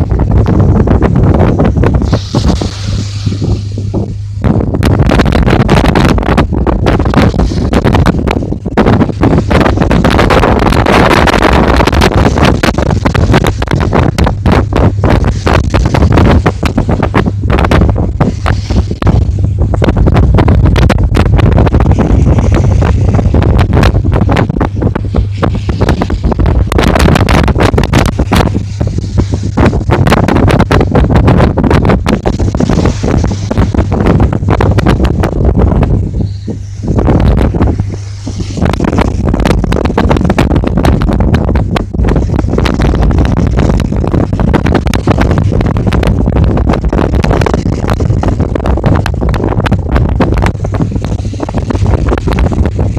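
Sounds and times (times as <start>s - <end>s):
boat engine drone: 0.0s - 52.9s
steady low rumble: 0.0s - 52.9s
strong wind buffeting microphone: 0.0s - 52.9s.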